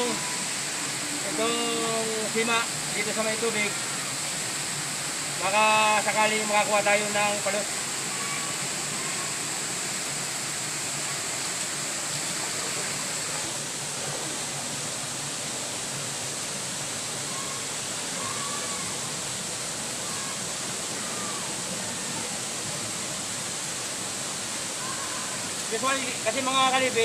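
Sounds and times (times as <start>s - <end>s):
river water rushing: 0.0s - 27.0s
small waterfall: 0.0s - 27.0s.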